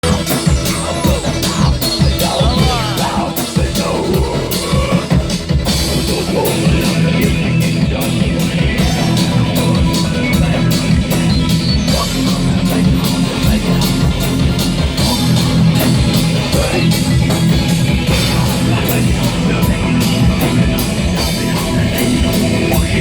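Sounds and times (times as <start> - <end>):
loud rock music: 0.0 - 23.0.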